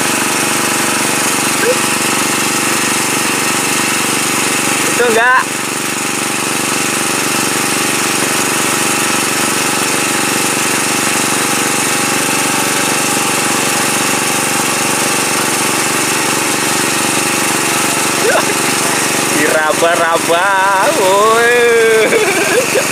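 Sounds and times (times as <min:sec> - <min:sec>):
small engine droning: 0:00.0 - 0:22.9.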